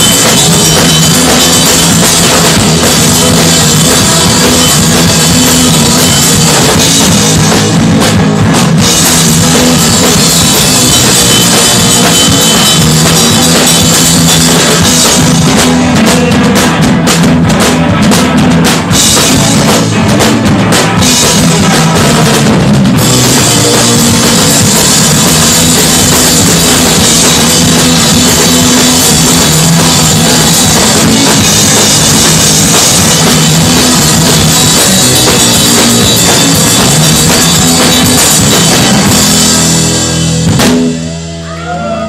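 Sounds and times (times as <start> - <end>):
drum kit beat: 0.0 - 42.0
electric guitar: 0.0 - 42.0
live rock band playing: 0.0 - 42.0.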